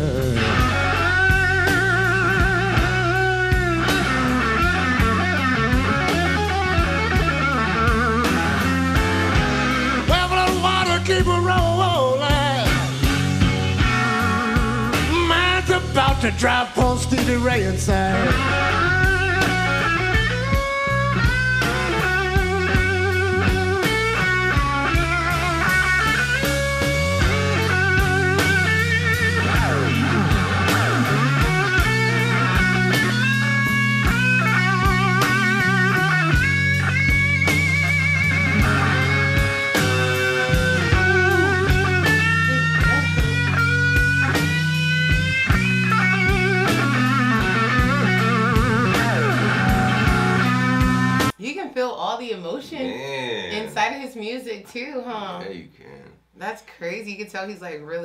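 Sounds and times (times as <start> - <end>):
electric guitar with vibrato: 0.0 - 51.4
drums: 0.0 - 51.5
bass: 0.0 - 51.6.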